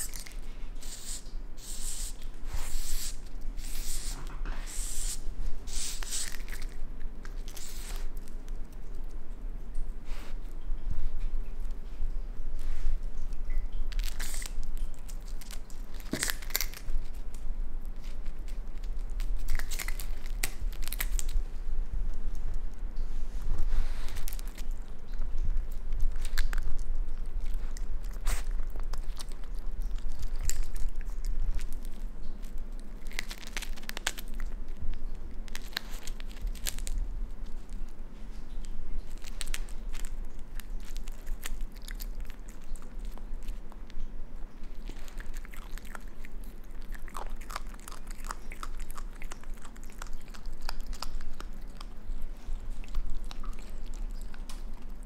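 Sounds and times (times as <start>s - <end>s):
raccoon chewing and crunching: 0.0s - 55.0s.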